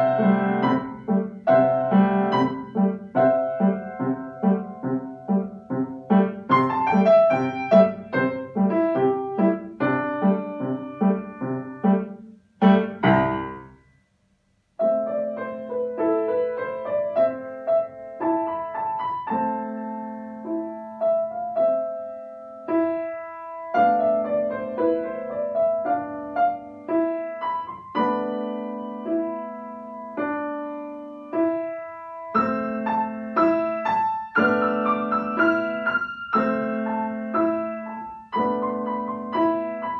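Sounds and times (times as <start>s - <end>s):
grand piano playing: 0.0s - 13.8s, 14.8s - 39.9s.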